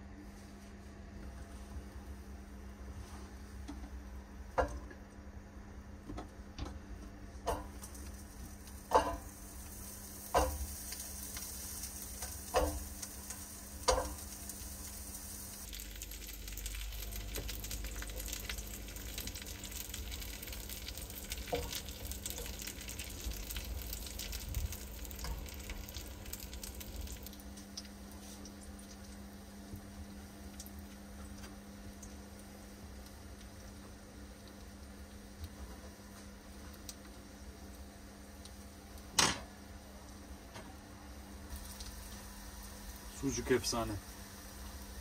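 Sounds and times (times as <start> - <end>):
fat sizzling in a pan: 7.4 - 40.4, 41.1 - 45.0.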